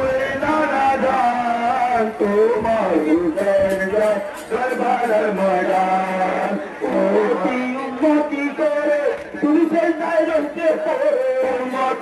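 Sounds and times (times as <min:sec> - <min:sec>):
man chanting a lament over loudspeakers: 0:00.0 - 0:12.0.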